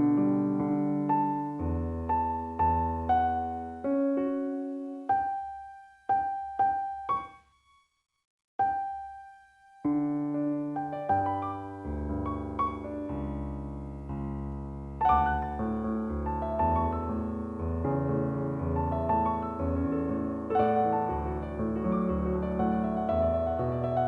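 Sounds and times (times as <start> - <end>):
background piano music: 0.0 - 7.9, 8.6 - 24.0.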